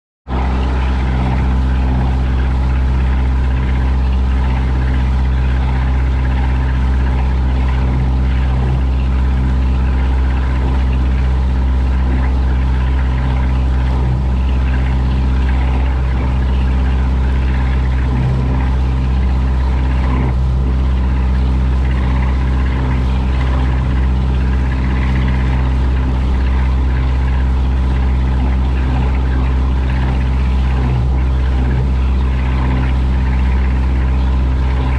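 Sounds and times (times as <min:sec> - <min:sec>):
ship engine drone: 0:00.3 - 0:34.9.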